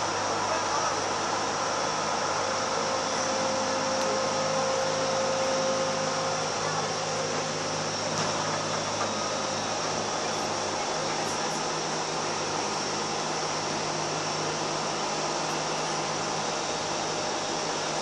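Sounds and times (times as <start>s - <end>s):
light rail car rumble and hiss: 0.0s - 18.0s.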